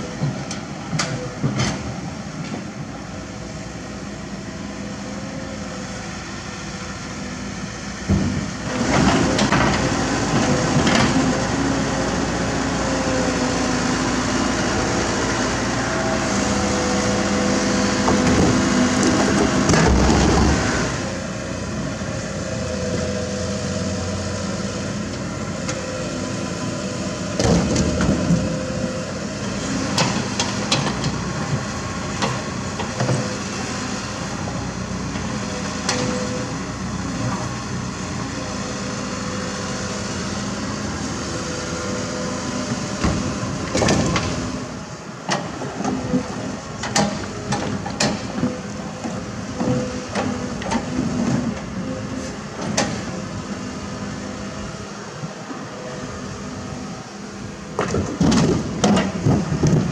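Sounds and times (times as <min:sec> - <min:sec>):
excavator diesel engine: 0:00.0 - 0:59.9.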